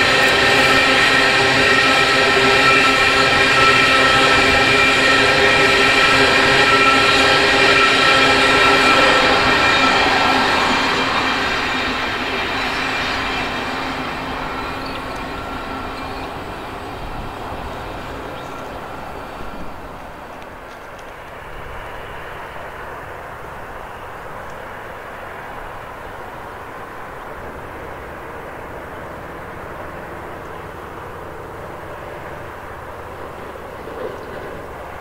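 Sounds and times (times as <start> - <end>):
freight train rumble: 0.0 - 35.0.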